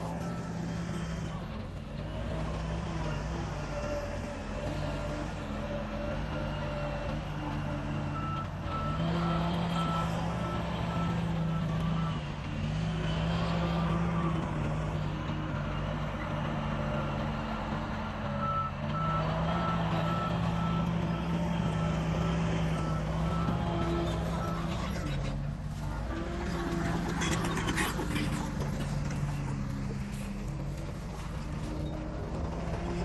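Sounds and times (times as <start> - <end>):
diesel engine under load: 0.0 - 33.0.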